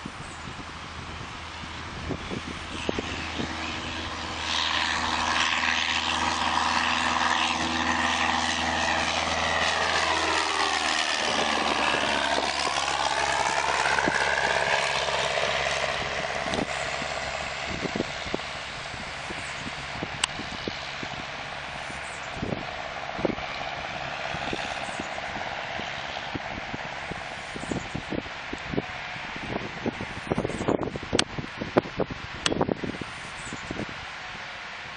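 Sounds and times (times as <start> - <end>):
light aircraft engine and propeller: 0.0 - 34.9.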